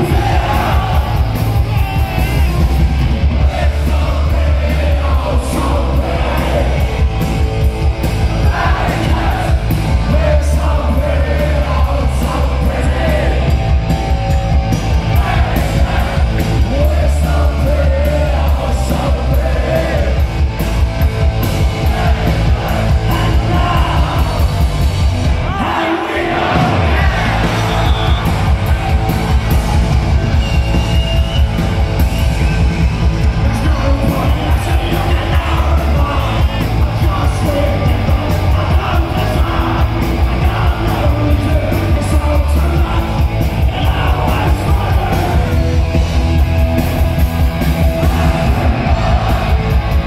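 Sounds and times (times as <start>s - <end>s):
shouted singing: 0.0s - 7.3s, 8.2s - 13.7s, 14.7s - 20.3s, 21.5s - 31.6s, 32.4s - 45.9s, 47.6s - 50.0s
drums: 0.0s - 50.0s.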